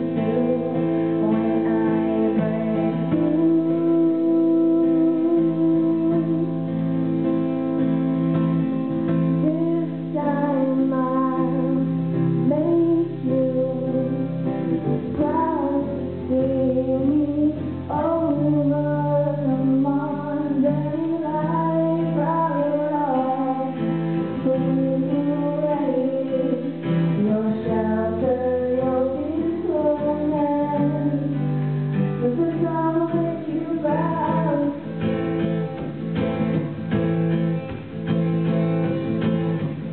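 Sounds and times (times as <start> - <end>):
girl singing: 0.0 - 8.0, 9.3 - 35.4
acoustic guitars strumming: 0.0 - 39.9.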